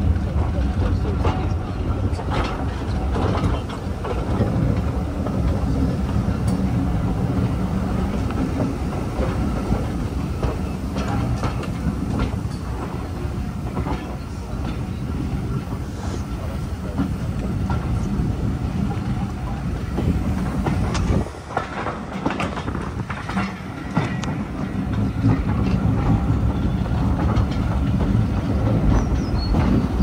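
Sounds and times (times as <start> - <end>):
train rumbling on track: 0.0 - 30.0
wheels clicking over rail joints: 0.0 - 30.0.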